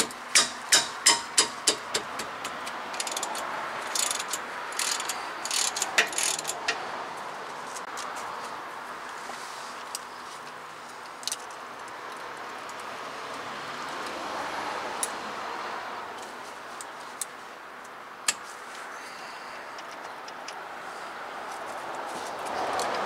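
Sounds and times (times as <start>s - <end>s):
steady background noise: 0.0s - 23.0s.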